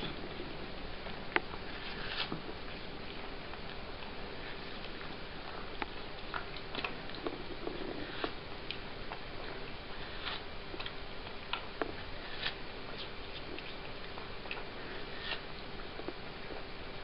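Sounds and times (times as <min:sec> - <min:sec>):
cat chewing watermelon: 0:00.0 - 0:17.0.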